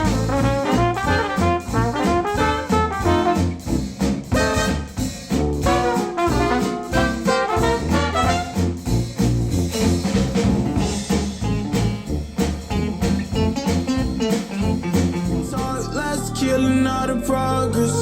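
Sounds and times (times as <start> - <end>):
jazzy instrumental music with brass: 0.0 - 16.7.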